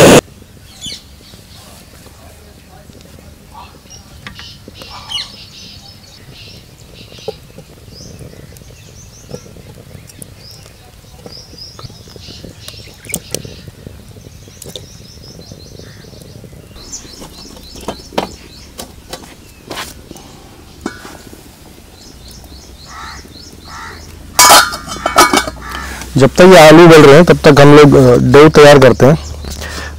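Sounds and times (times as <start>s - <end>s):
songbirds chirping: 0.2s - 29.9s.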